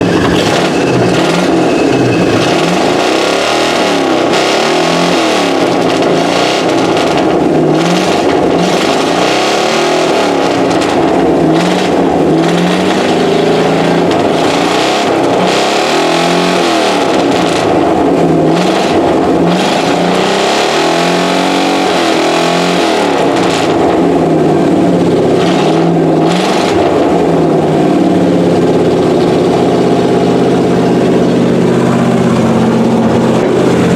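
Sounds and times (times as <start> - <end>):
pickup engine revving: 0.0 - 33.9.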